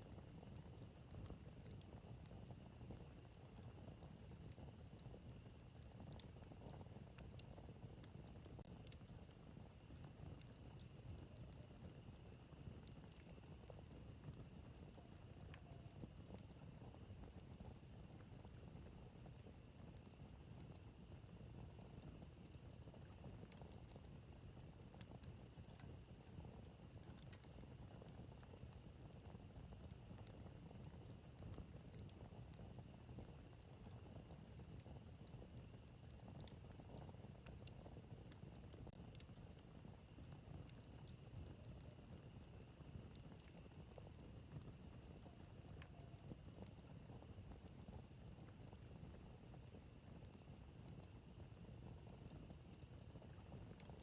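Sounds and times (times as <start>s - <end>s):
campfire crackles and pops: 0.0s - 54.0s
campfire low rumble: 0.0s - 54.0s.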